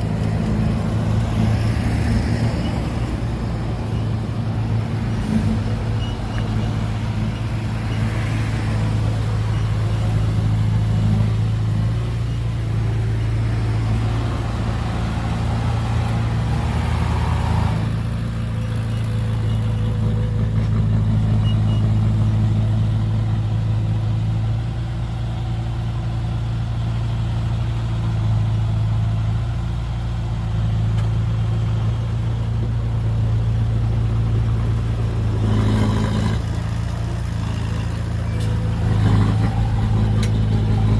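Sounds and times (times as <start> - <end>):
heavy machinery diesel engine droning: 0.0 - 40.9.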